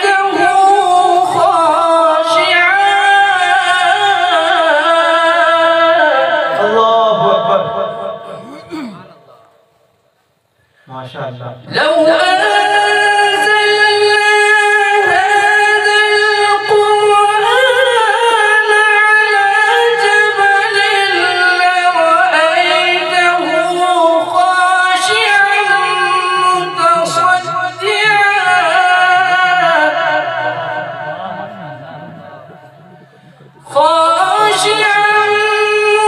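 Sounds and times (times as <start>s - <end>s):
man reciting melodically: 0.0s - 9.4s, 10.8s - 36.0s.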